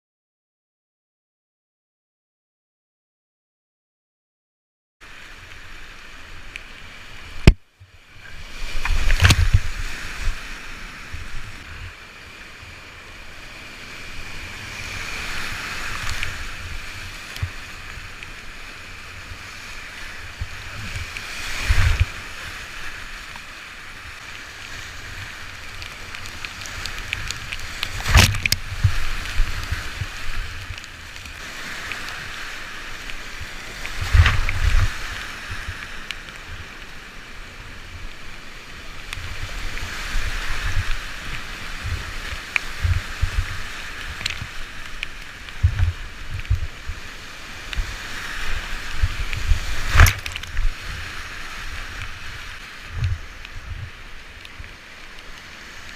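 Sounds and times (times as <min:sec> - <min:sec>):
deep water rumbles: 0:05.8 - 0:55.9
whitewater rapids rushing: 0:08.2 - 0:55.9.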